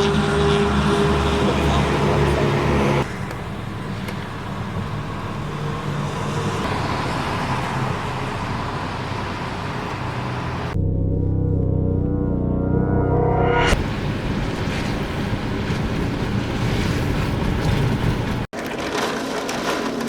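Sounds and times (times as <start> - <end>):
road traffic noise: 0.0 - 10.8, 13.7 - 20.0
vehicle running hum: 0.0 - 18.5.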